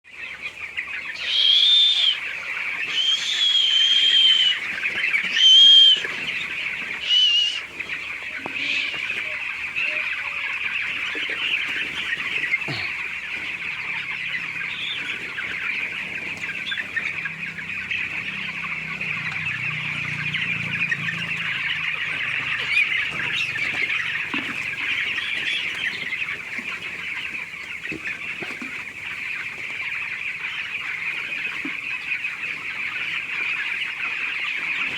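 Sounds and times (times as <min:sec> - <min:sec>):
chickens calling: 0:00.1 - 0:34.9
loud nearby chicken calls: 0:00.1 - 0:34.9.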